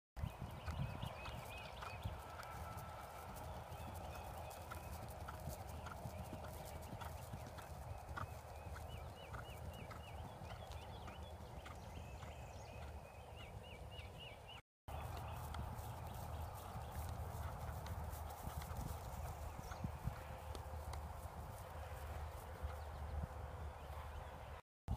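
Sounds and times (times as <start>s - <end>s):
horse hoofbeats on grass: 0.2s - 24.1s.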